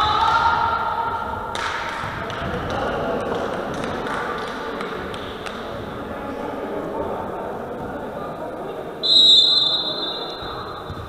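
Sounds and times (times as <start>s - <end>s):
indistinct voices in a hall: 0.0s - 11.0s.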